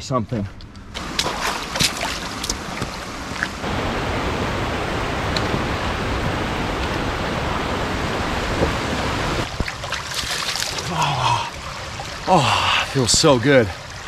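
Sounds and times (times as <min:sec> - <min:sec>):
creek water rushing over rocks: 0:01.0 - 0:14.0.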